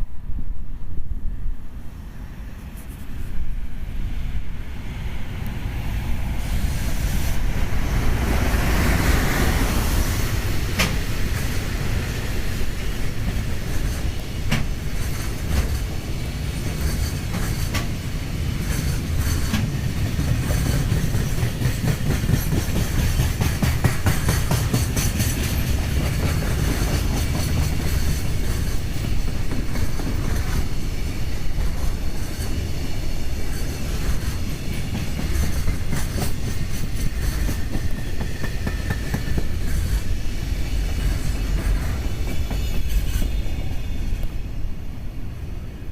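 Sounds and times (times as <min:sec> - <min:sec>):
freight train passing: 0:00.0 - 0:45.9
wheels clickety-clack over rail joints: 0:05.3 - 0:44.6.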